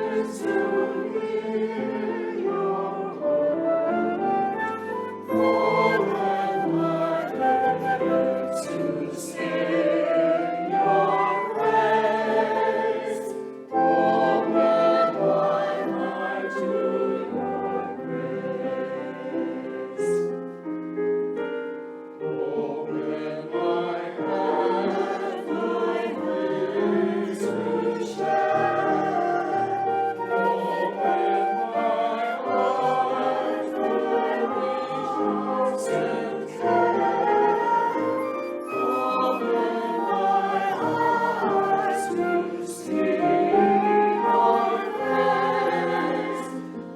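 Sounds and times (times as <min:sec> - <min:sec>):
choir singing: 0:00.0 - 0:20.5, 0:22.1 - 0:46.9.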